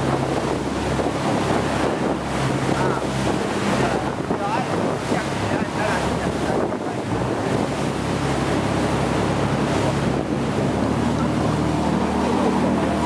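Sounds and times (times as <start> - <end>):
boat engine humming: 0.0 - 13.0
sea splashing along boat hull: 0.0 - 13.0
wind buffeting microphone: 0.0 - 13.0.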